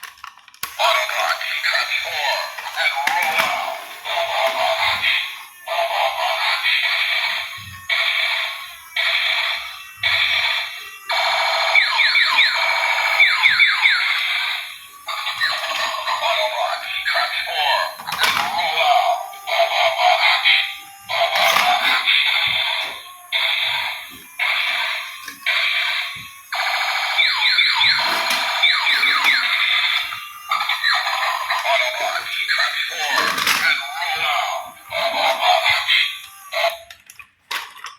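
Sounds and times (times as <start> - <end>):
electronic alarm tones: 1.4 - 36.8.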